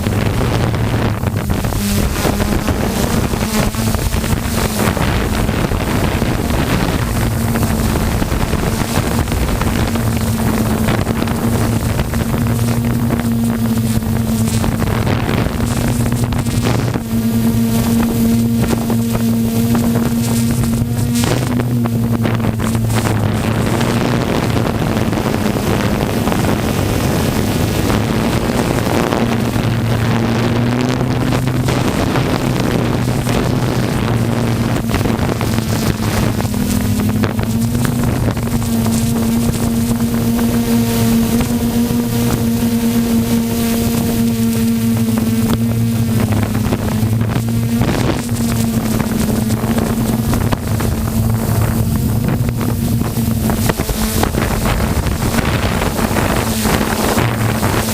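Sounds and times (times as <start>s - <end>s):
engine humming steadily: 0.0s - 57.9s
wind on microphone: 0.0s - 57.9s.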